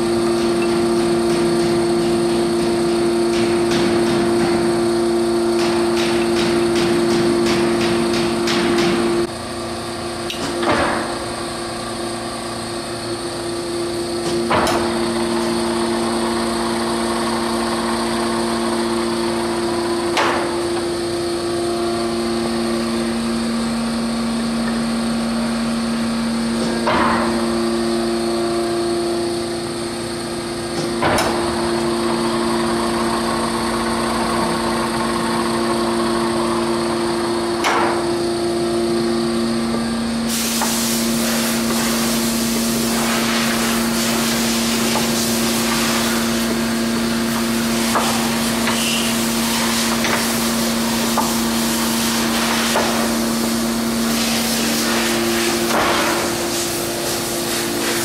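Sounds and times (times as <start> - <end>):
lathe gearing whine: 0.0 - 58.0.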